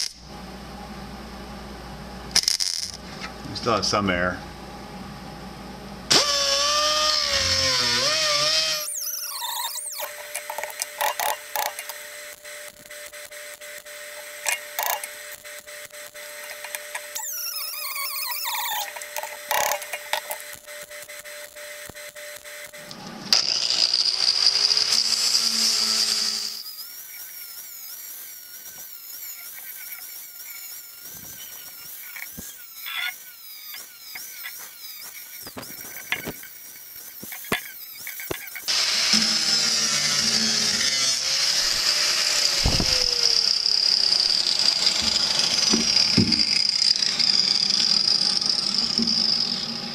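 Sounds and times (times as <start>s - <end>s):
angle grinder whining: 6.1s - 49.9s.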